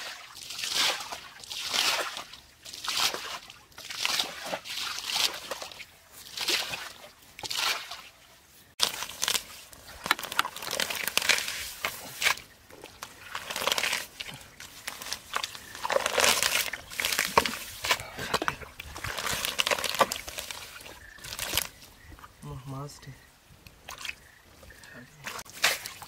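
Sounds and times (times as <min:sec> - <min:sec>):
swishes in muddy water: 0:00.0 - 0:21.7
footsteps through wet grass and mud: 0:00.0 - 0:26.0.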